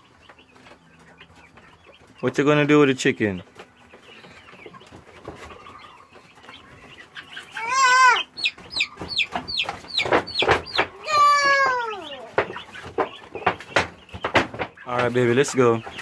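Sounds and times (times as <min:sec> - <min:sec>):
chickens squawking: 0:00.0 - 0:16.0.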